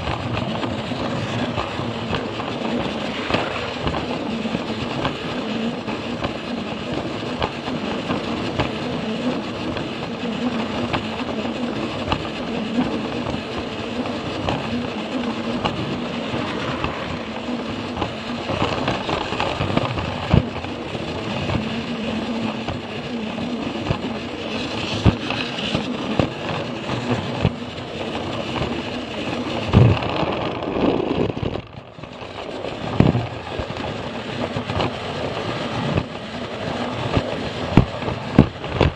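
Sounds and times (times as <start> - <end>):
wheels clicking over track joints: 0.0 - 38.9
toy train motor whirring: 0.2 - 31.5.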